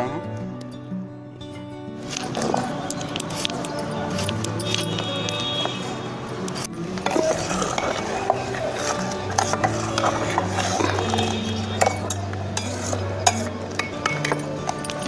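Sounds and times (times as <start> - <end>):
background music: 0.0 - 15.0
spoon stirring in metal pot: 2.1 - 15.0.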